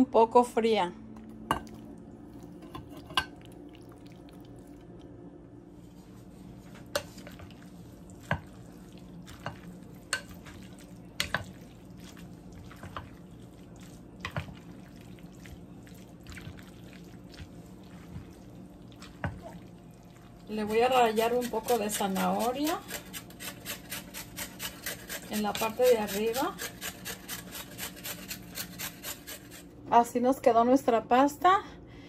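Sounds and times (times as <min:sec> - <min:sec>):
steady low hum: 0:00.0 - 0:32.0
pasta squishing: 0:01.3 - 0:05.1, 0:05.7 - 0:29.7.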